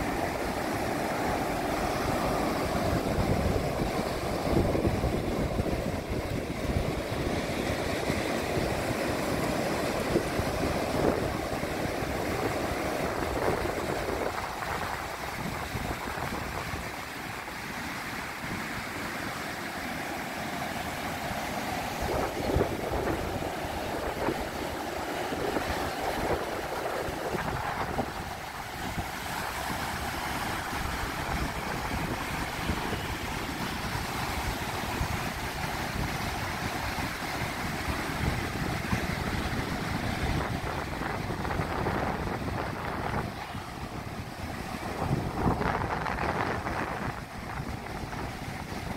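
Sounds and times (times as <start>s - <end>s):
wind buffeting microphone: 0.0s - 17.8s, 21.8s - 48.9s
ocean surf breaking: 0.0s - 48.9s.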